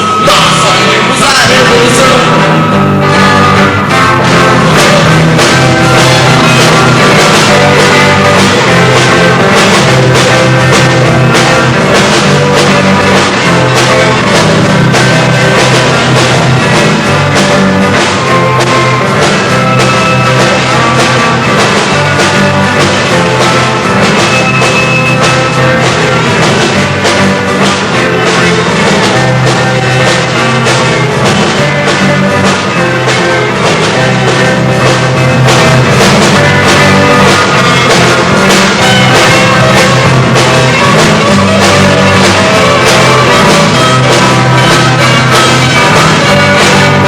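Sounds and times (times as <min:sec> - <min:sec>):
bass guitar: 0:00.0 - 0:47.0
drum kit beat: 0:00.0 - 0:47.0
electric guitar: 0:00.0 - 0:47.0.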